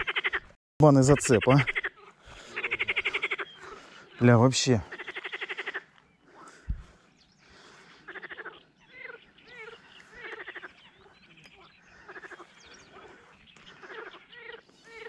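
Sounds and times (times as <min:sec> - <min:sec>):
gliding frog calls: 0:00.0 - 0:06.8, 0:08.0 - 0:15.0
frogs croaking: 0:00.0 - 0:15.0.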